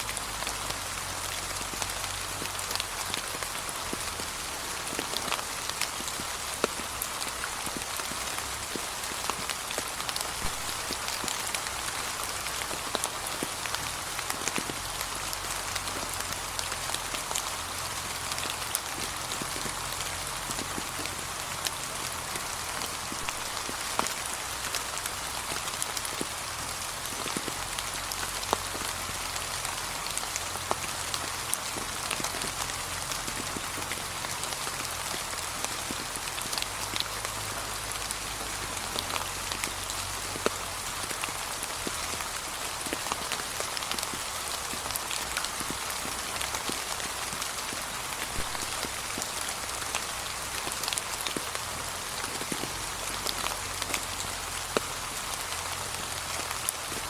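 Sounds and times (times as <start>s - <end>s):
rain on fallen leaves: 0.0s - 57.0s.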